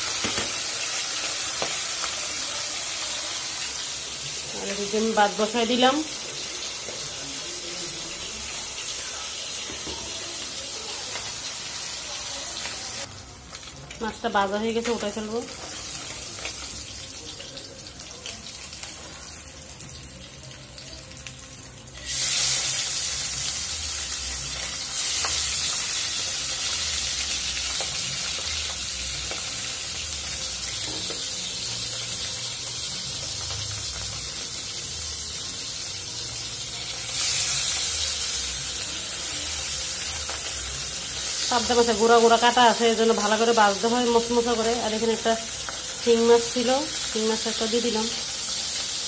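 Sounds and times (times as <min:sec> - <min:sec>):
fish sizzling in hot oil: 0:00.0 - 0:49.0.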